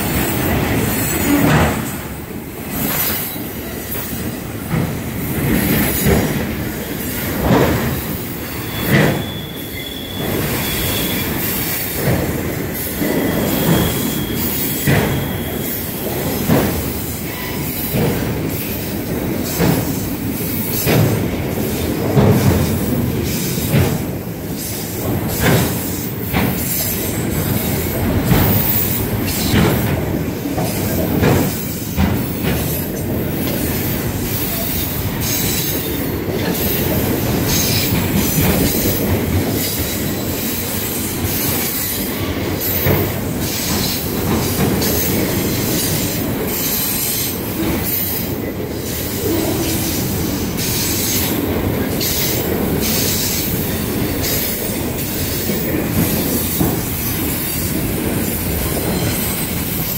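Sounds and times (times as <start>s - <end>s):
train wheels rumbling on rail: 0.0s - 59.9s
wheel clacks on rail: 0.0s - 59.9s.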